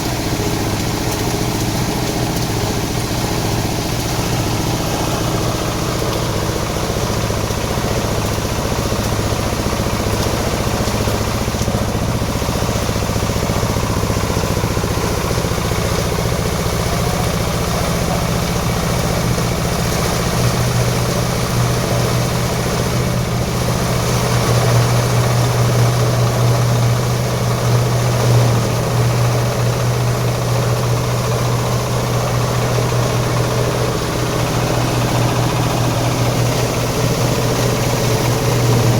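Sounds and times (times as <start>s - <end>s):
grinding machine running: 0.0s - 38.9s.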